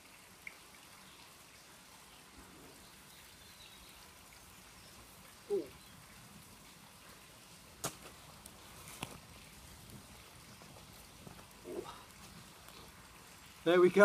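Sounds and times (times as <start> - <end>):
faint crackling of burning tinder: 0.1 - 14.0.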